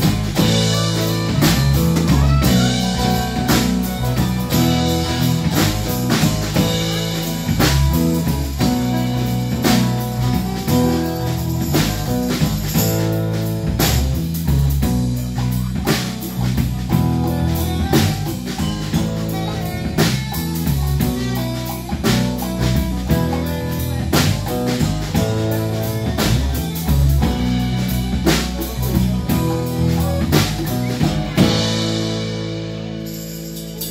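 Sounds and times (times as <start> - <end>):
live band playing: 0.0 - 33.9.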